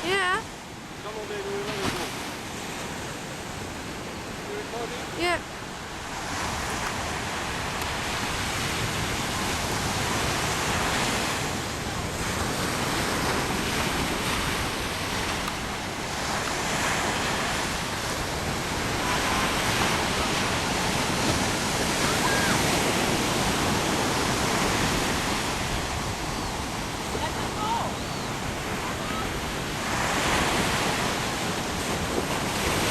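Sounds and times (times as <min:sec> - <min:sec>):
ocean surf breaking on shore: 0:00.0 - 0:32.9.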